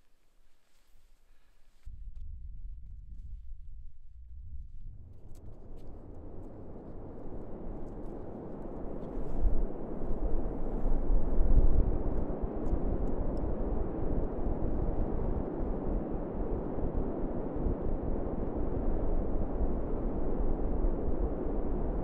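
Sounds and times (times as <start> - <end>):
wind buffeting microphone: 1.8 - 22.0.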